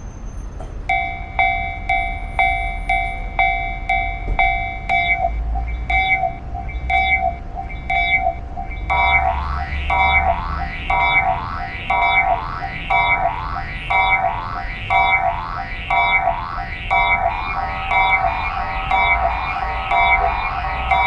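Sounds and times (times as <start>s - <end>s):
railroad crossing bell ringing: 0.9s - 21.0s
steady low rumble: 0.9s - 21.0s.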